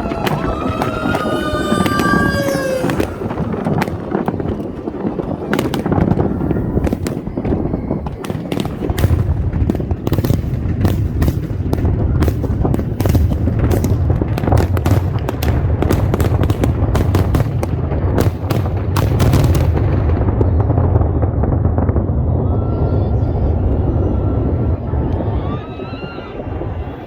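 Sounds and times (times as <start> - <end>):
fireworks cracks and bangs: 0.0 - 27.0.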